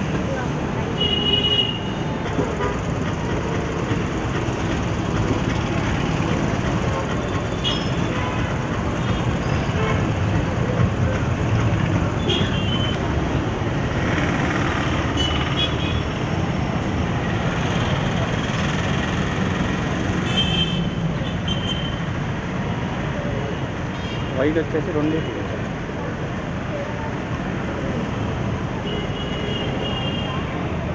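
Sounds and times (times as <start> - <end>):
street traffic noise: 0.0 - 30.9.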